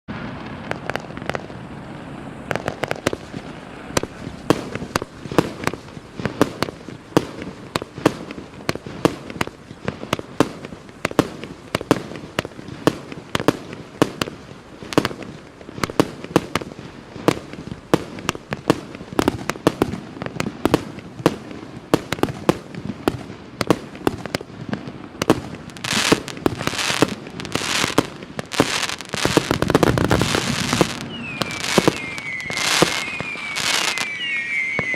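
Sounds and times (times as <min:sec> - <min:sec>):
fireworks bangs in rapid succession: 0:00.1 - 0:34.9.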